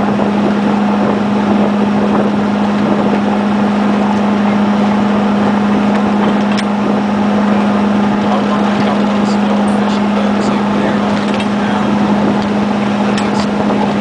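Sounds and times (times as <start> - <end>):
boat engine droning: 0.0 - 14.0
water noise: 0.0 - 14.0
wind: 0.0 - 14.0.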